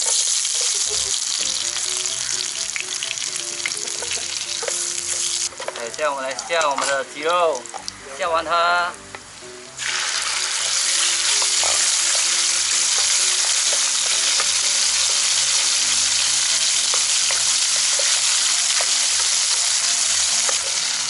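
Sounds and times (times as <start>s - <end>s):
chicken sizzling in hot oil: 0.0s - 8.1s, 9.4s - 21.0s.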